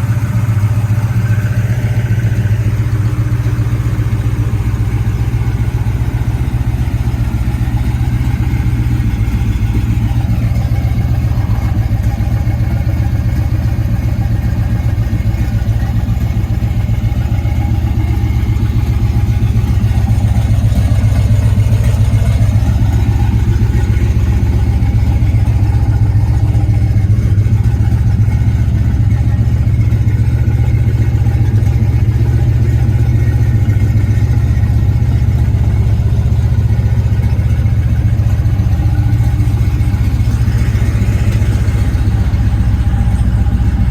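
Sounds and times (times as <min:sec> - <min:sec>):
truck engine rumbling: 0:00.0 - 0:43.9.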